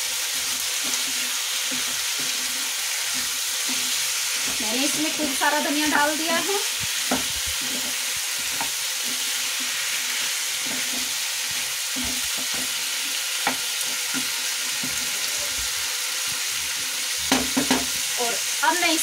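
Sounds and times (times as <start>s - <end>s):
potatoes sizzling in a pan: 0.0s - 19.0s
wooden spatula scraping a pan: 0.2s - 17.9s.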